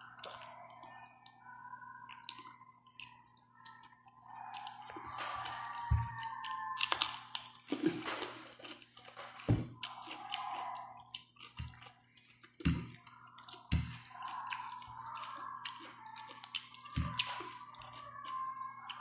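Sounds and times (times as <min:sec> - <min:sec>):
wet chewing: 0:00.0 - 0:01.4, 0:02.0 - 0:19.0.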